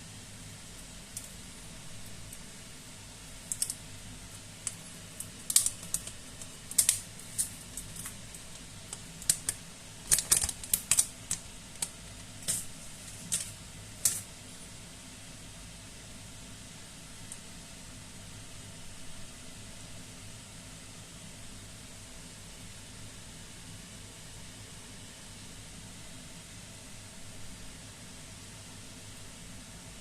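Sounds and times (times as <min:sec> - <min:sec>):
steady low hiss: 0:00.0 - 0:30.0.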